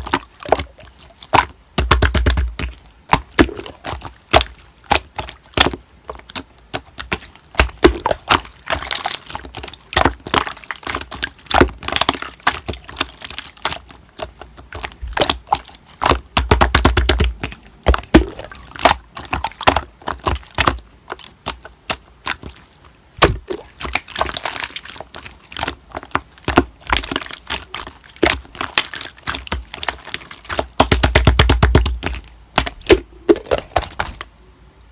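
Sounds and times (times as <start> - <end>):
slime squishing with crackling pops: 0.0 - 34.4.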